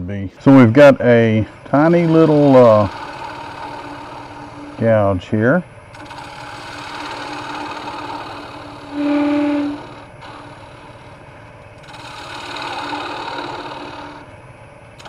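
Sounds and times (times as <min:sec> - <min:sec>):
gouge cutting spinning wood: 0:00.4 - 0:14.4
wood lathe running: 0:00.4 - 0:15.0.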